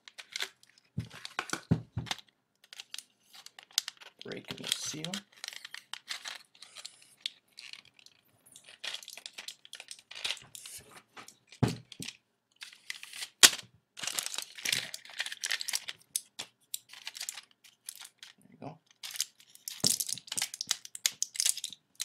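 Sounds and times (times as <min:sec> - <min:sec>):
plastic packaging crinkling and tearing: 0:00.0 - 0:22.0.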